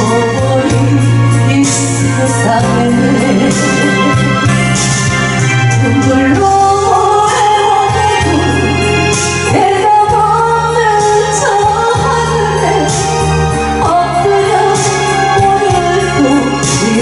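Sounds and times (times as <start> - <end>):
person singing: 0.0 - 5.0, 5.6 - 17.0
backing music with bass line: 0.0 - 17.0.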